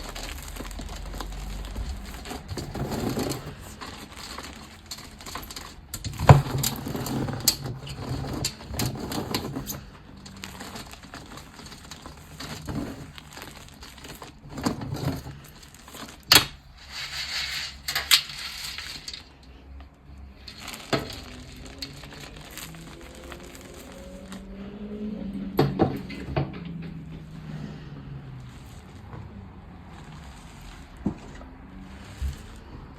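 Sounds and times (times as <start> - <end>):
chalk crunching and crumbling: 0.0 - 24.8, 27.3 - 32.9.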